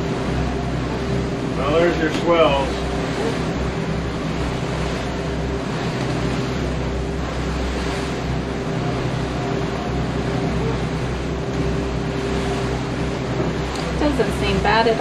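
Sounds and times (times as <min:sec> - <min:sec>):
boat engine drone: 0:00.0 - 0:15.0
water rushing off bow: 0:00.0 - 0:15.0
wind: 0:00.0 - 0:15.0.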